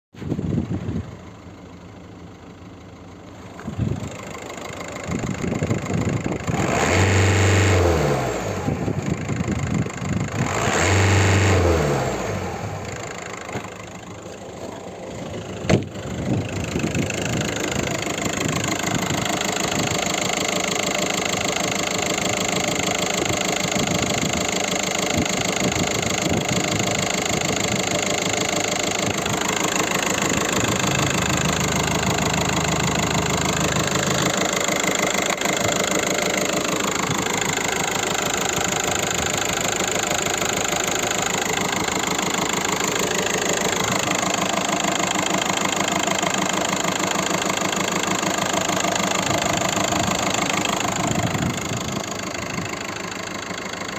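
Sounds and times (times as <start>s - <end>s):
diesel engine revving and idling: 0.2s - 53.9s.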